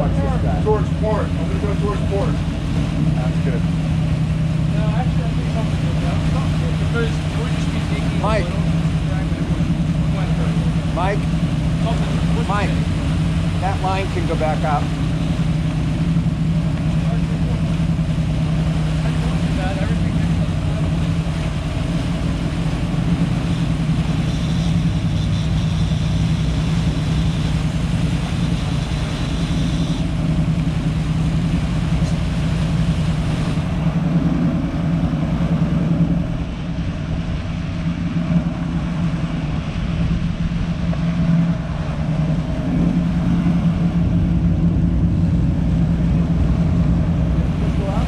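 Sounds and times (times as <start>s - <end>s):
boat engines droning: 0.0s - 48.0s.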